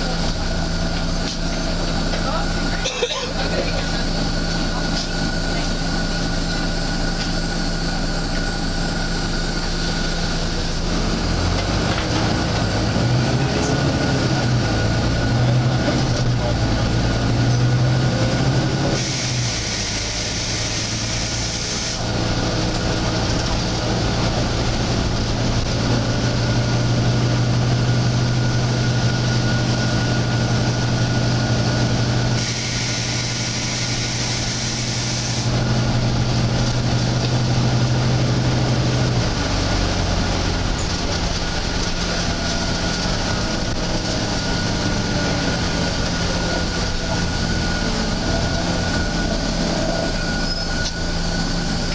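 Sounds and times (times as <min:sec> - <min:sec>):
bus engine droning: 0:00.0 - 0:51.9.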